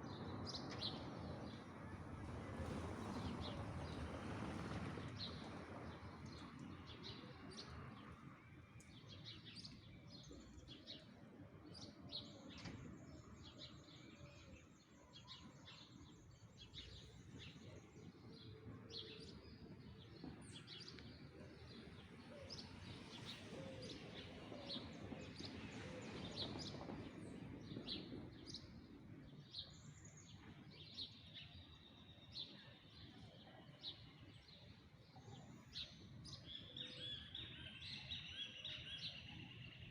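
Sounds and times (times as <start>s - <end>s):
city background rumble: 0.0s - 37.9s.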